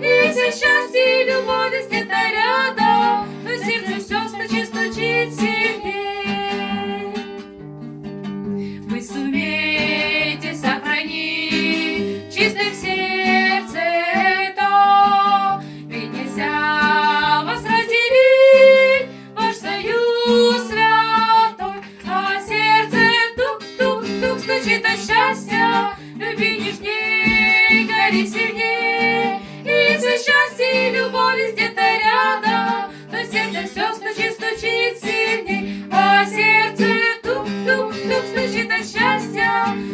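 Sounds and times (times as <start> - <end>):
woman singing: 0.0 - 7.6, 8.8 - 39.9
acoustic guitar: 0.0 - 39.9.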